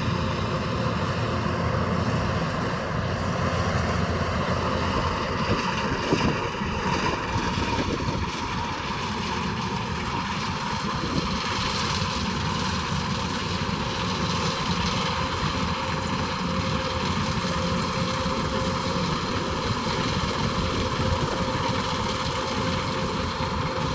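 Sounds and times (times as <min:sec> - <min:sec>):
combine harvester running: 0:00.0 - 0:23.9.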